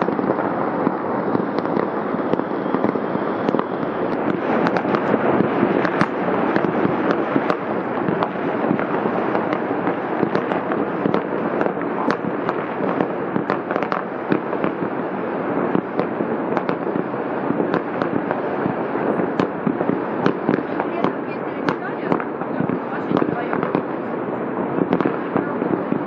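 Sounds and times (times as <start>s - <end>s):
firecracker sharp cracks: 0.0s - 24.2s, 24.8s - 26.0s
rumbling barrage of distant bangs: 0.0s - 26.0s.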